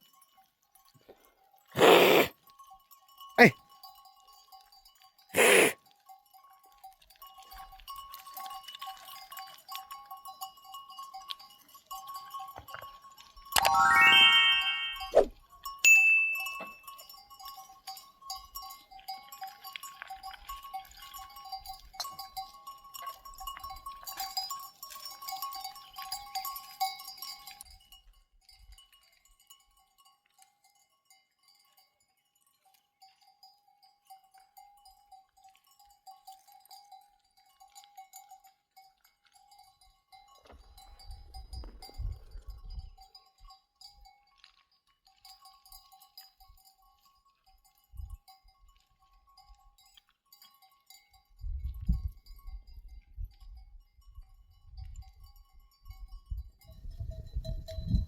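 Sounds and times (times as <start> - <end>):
sheep bells clinking: 0.0 - 58.0.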